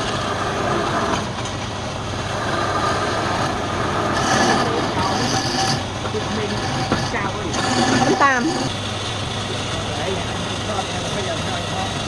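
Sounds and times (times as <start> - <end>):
turning tool scraping wood: 0.0 - 1.6, 2.2 - 12.0
wood lathe hum: 0.0 - 12.0.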